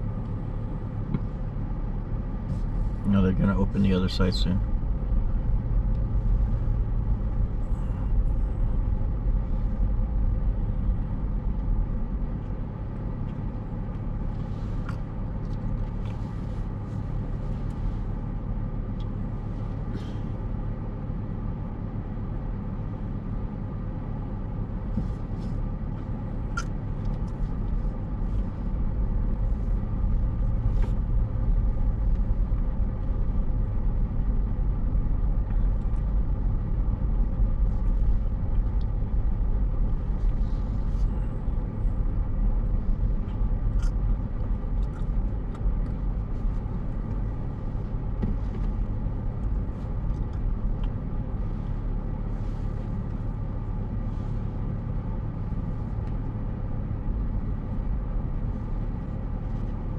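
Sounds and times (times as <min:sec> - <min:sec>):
car engine and road noise rumble: 0:00.0 - 0:59.9.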